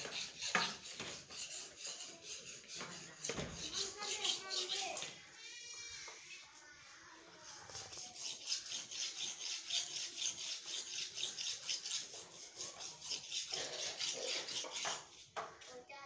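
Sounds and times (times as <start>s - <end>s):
blade sharpening on whetstone: 0.0s - 5.1s, 7.4s - 15.4s.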